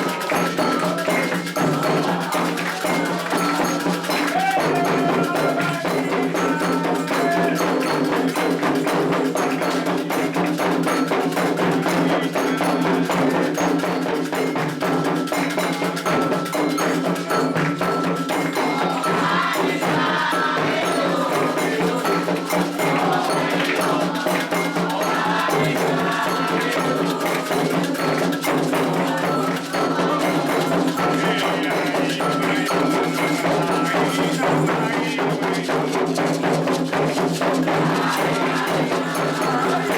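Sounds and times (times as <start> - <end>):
hand drums: 0.0 - 39.9
voices singing: 0.0 - 39.9.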